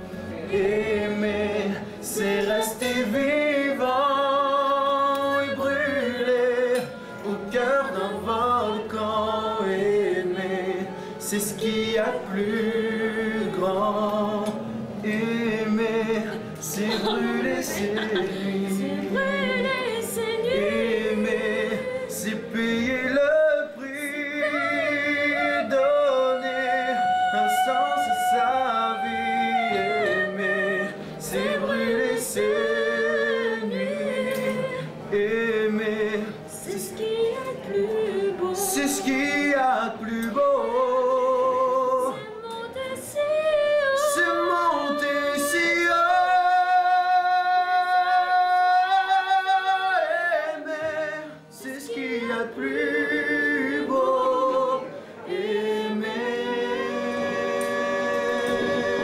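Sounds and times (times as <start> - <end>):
person singing slow melody: 0.0 - 59.0.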